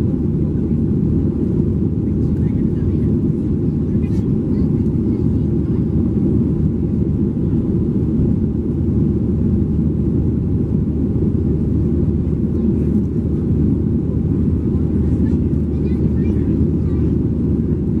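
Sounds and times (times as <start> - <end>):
jet engines and airflow in cabin: 0.0 - 18.0.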